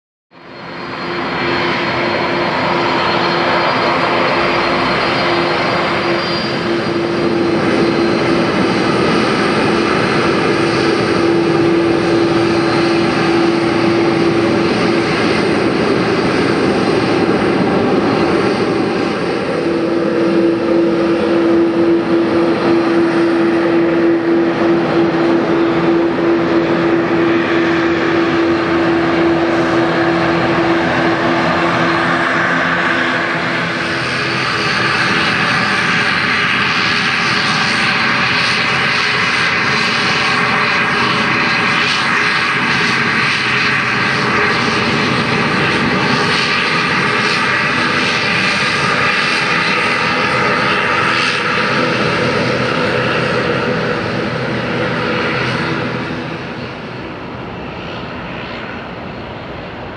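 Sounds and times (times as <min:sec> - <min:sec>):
jet engines at high power: 0:00.3 - 0:59.9.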